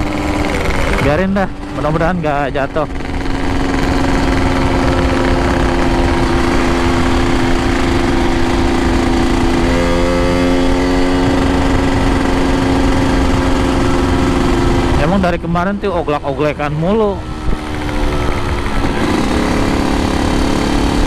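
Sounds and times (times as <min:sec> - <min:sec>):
two-stroke motorcycle engine running: 0:00.0 - 0:21.0
wind and road noise: 0:00.0 - 0:21.0.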